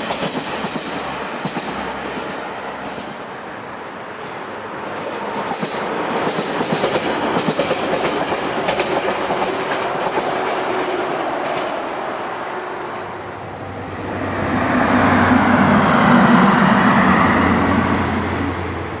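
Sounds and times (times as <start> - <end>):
train rumble with low drone: 0.0 - 19.0.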